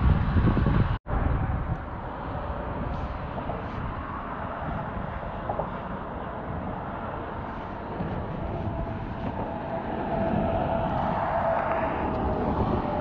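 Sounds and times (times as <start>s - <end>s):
rumble of road traffic: 0.0s - 13.0s.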